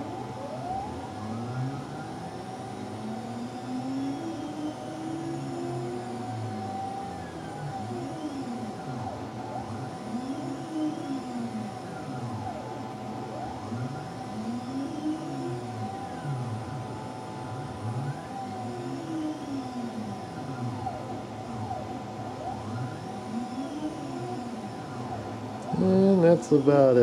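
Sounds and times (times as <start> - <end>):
milling machine motors whining: 0.0 - 27.0.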